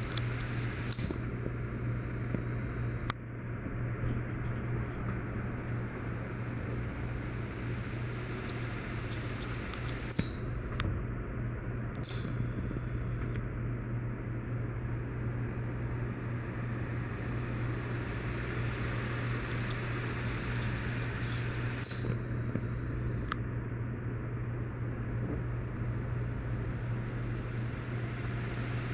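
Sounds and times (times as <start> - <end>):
machine hum with hiss: 0.0 - 28.9.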